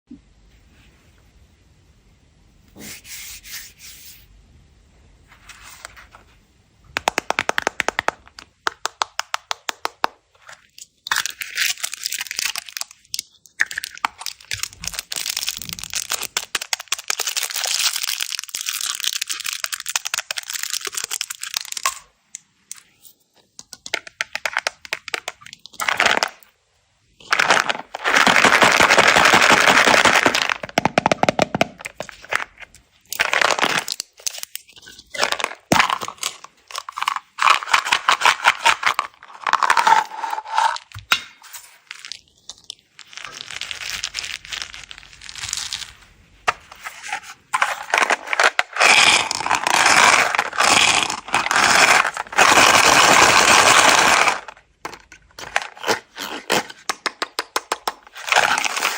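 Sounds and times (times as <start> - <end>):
candies clattering when poured: 7.0 - 22.1, 23.7 - 26.5, 27.2 - 58.9.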